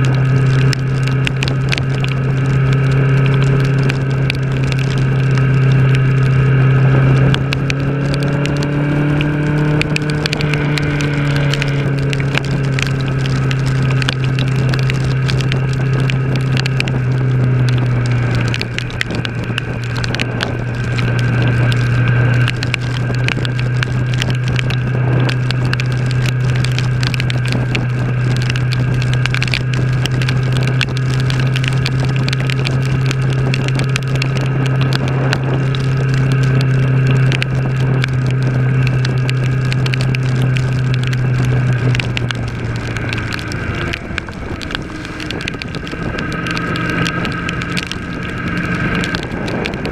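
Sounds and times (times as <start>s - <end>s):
motorcycle engine cruising: 0.0s - 49.9s
wind rushing over microphone: 0.0s - 49.9s.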